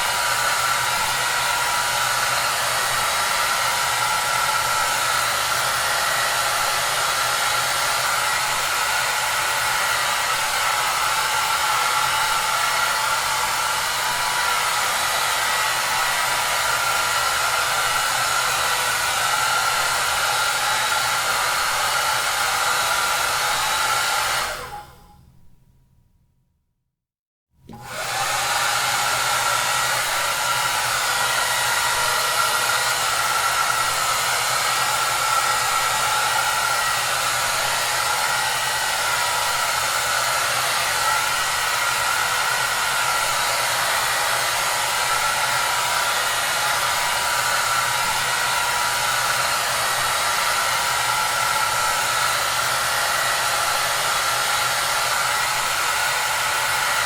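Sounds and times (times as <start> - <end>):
hair dryer running: 0.0 - 25.2, 27.6 - 57.0.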